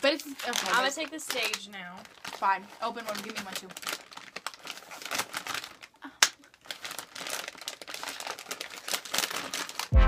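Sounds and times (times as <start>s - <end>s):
plastic snack bag crinkling: 0.0s - 10.0s.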